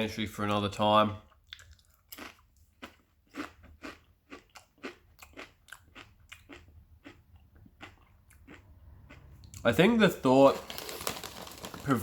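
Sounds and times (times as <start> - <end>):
person chewing crisp chips: 1.3 - 12.0.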